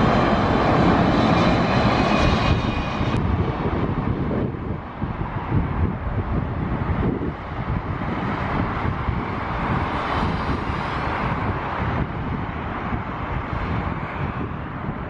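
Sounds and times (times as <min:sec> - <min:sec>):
jet engines passing: 0:00.0 - 0:15.0
wind buffeting microphone: 0:00.0 - 0:15.0.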